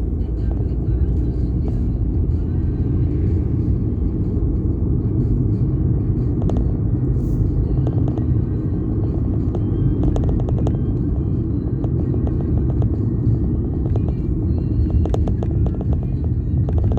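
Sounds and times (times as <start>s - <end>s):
vehicle road and wind rumble: 0.0s - 16.9s.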